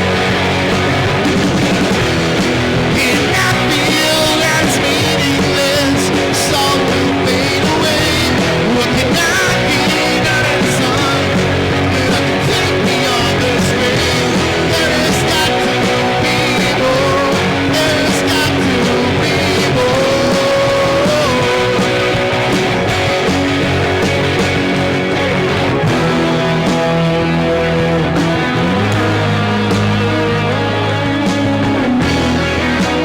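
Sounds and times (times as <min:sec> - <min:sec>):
loud rock music: 0:00.0 - 0:33.0.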